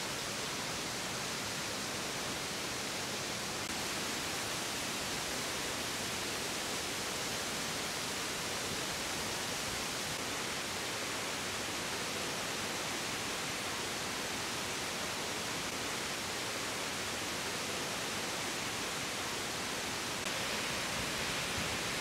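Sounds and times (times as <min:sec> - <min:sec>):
water cascading over rocks: 0:00.0 - 0:22.0.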